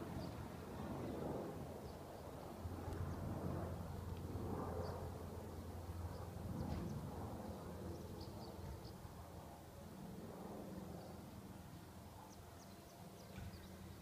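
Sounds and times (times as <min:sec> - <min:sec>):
distant helicopter drone: 0:00.0 - 0:14.0.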